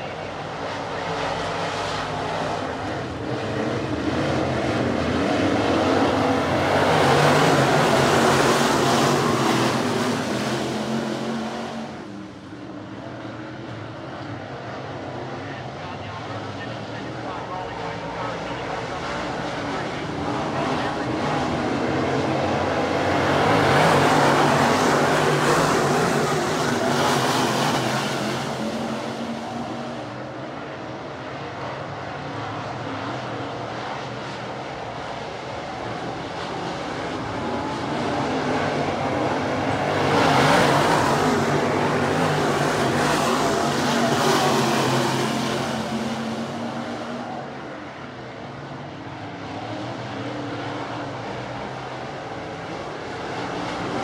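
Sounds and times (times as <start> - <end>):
racecar engines passing: 0.0 - 54.0.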